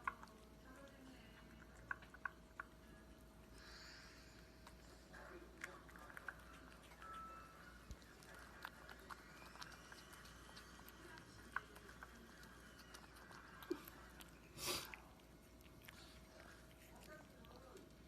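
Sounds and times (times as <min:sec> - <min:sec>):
pet chewing food: 0:00.0 - 0:18.0.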